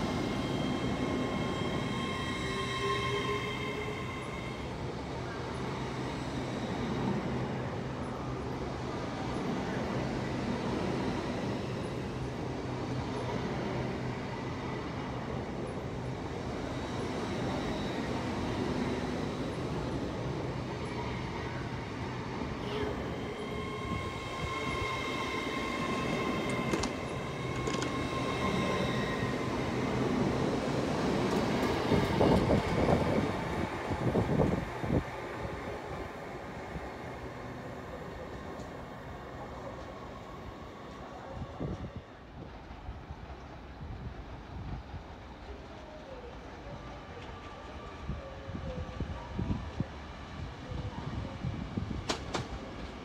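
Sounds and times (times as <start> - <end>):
train rumbling: 0.0 - 53.0.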